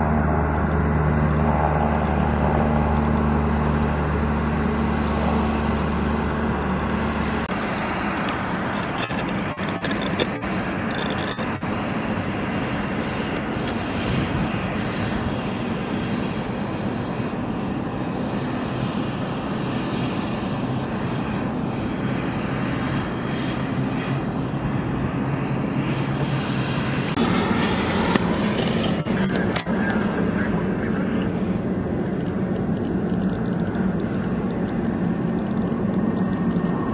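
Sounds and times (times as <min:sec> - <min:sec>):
airplane engines humming: 0:00.0 - 0:36.9.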